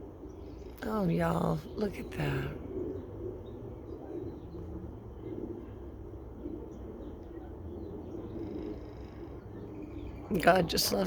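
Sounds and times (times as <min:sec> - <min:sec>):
doves cooing: 0:00.0 - 0:11.0
small birds chirping: 0:00.0 - 0:11.0.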